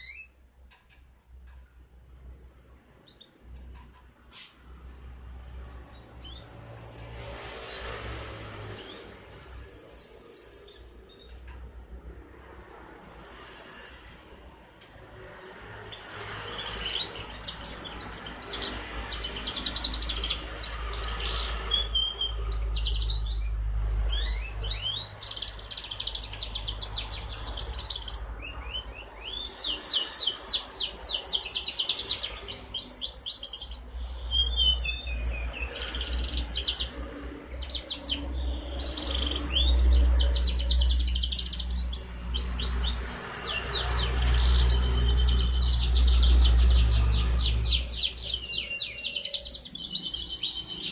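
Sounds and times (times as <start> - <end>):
canary singing trills: 0.0 - 0.4, 3.0 - 4.4, 5.8 - 6.8, 7.6 - 11.6, 15.8 - 50.9.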